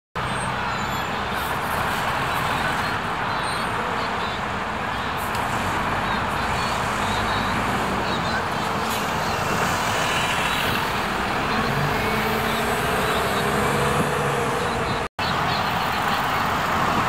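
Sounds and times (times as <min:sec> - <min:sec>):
city traffic: 0:00.2 - 0:17.0.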